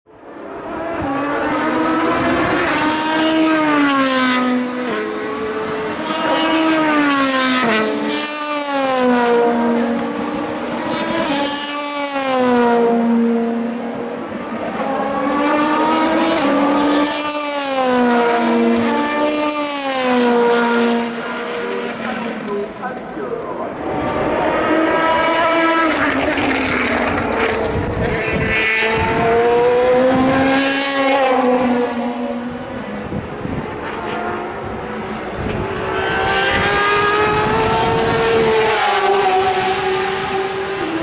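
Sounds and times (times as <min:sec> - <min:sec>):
race cars passing: 0:00.1 - 0:41.0.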